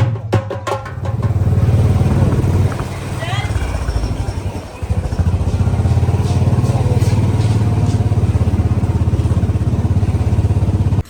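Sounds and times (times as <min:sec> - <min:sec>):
small vehicle engine idling: 0:00.8 - 0:11.0.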